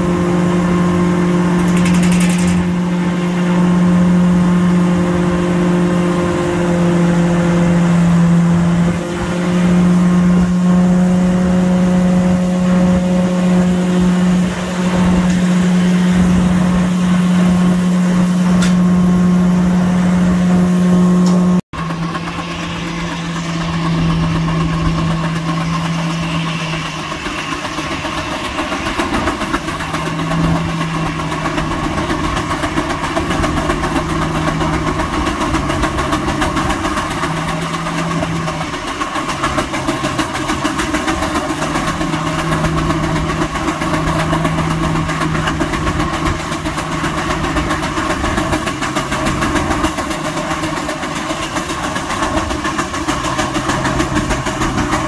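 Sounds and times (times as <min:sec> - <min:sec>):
steam engine running sawmill: 0:00.0 - 0:55.0.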